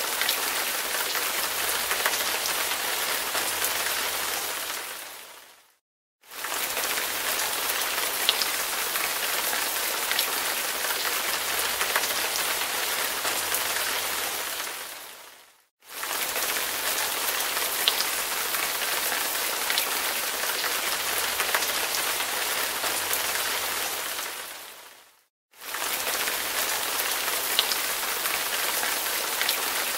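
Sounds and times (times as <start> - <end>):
rain-like hiss with ticks: 0.0 - 5.6, 6.3 - 25.0, 25.6 - 29.9.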